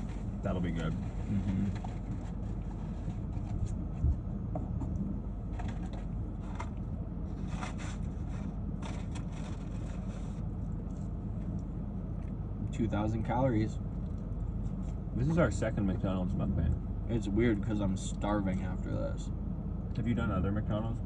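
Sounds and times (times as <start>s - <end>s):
low hum inside a car: 0.0s - 21.0s.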